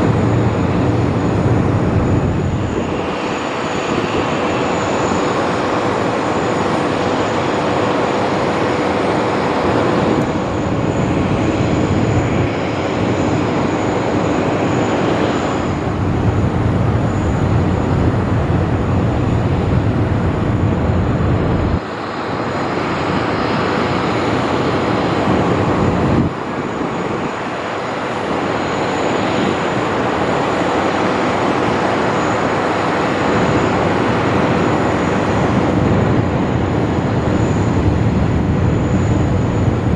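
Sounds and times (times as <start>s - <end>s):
jet engine rush with whine: 0.0s - 39.9s.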